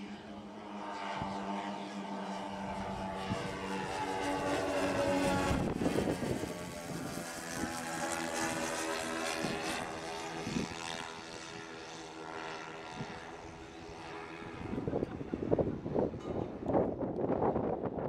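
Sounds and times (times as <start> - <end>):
model plane engines droning: 0.0 - 18.0.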